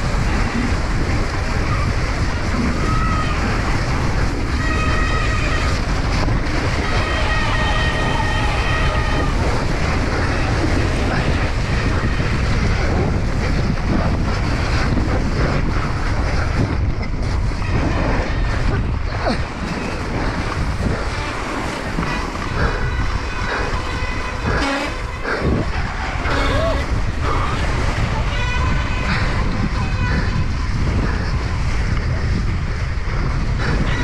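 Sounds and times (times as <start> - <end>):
tyres skidding through slushy snow: 0.0 - 34.0
wind noise on microphone: 0.0 - 34.0.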